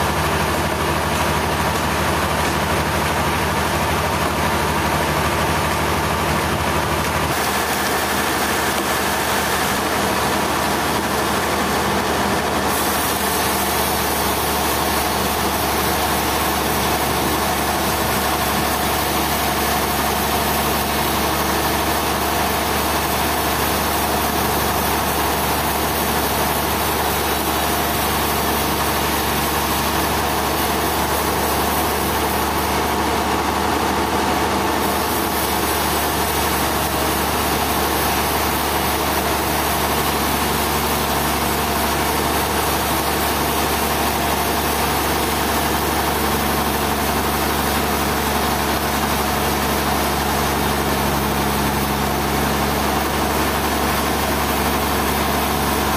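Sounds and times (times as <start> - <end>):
sawmill machinery drone with hiss: 0.0 - 55.9.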